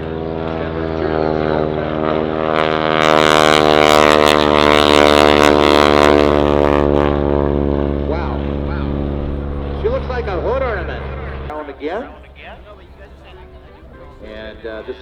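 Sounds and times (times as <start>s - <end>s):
biplane engine drone: 0.0s - 15.0s
propeller rush: 0.0s - 15.0s.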